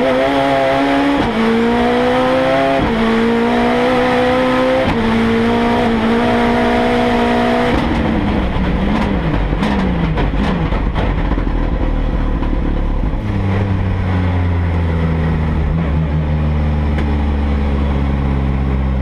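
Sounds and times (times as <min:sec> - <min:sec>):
race car engine from cockpit: 0:00.0 - 0:19.0.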